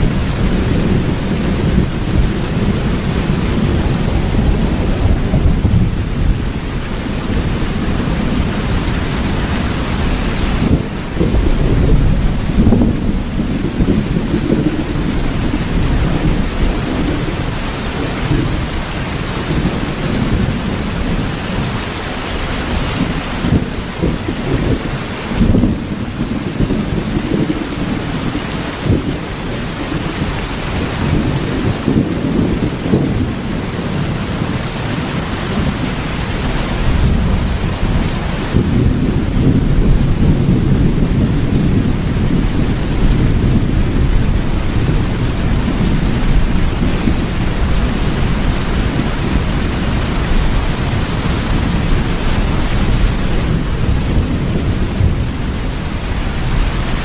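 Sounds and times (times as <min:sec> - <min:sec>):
heavy rain: 0:00.0 - 0:57.0
thunder rumbling: 0:00.0 - 0:57.0.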